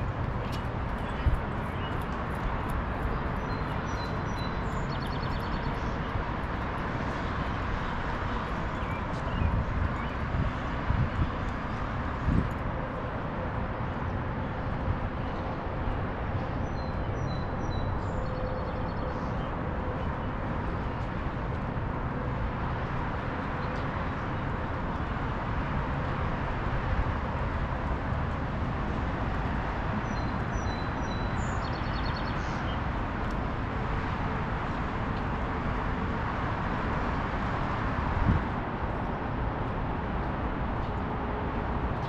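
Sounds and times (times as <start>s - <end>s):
distant traffic hum: 0.0s - 42.0s.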